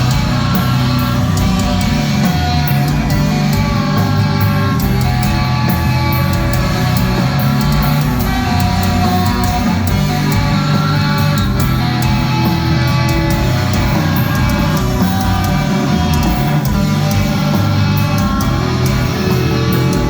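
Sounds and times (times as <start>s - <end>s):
distorted electric guitars: 0.0s - 20.0s.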